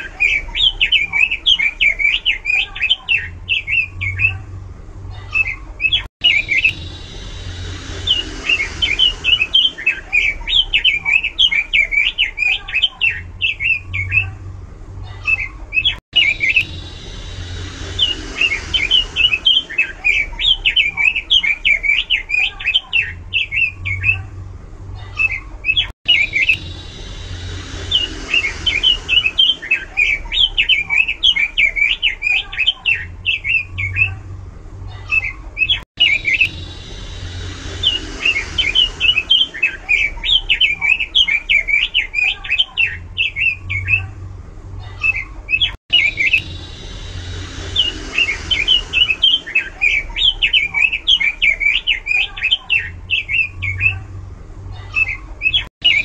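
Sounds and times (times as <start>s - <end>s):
bird singing warbling phrases: 0.0s - 4.5s, 5.1s - 44.2s, 44.8s - 56.0s.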